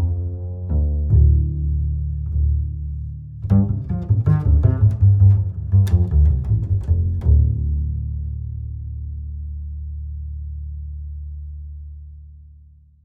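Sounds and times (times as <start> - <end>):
instrumental music with deep bass: 0.0 - 13.0.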